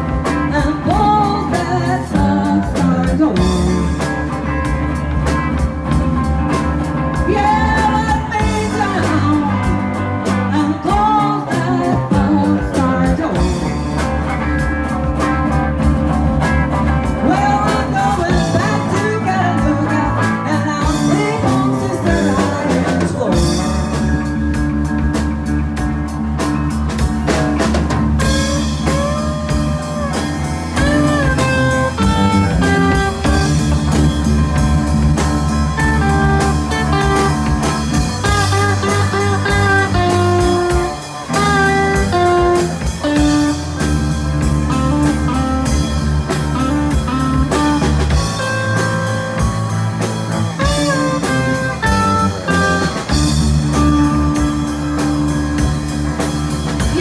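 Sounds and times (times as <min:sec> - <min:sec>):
drums: 0:00.0 - 0:57.0
lead electric guitar solo: 0:00.0 - 0:57.0
rhythm electric guitar: 0:00.0 - 0:57.0.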